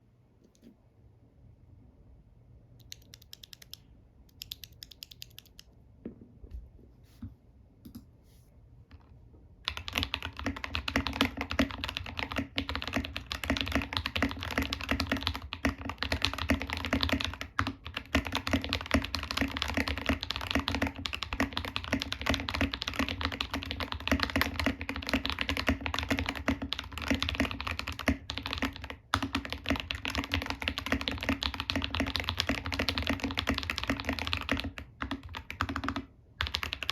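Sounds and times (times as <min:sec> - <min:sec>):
mechanical keyboard typing: 0:02.8 - 0:05.7, 0:09.7 - 0:36.9.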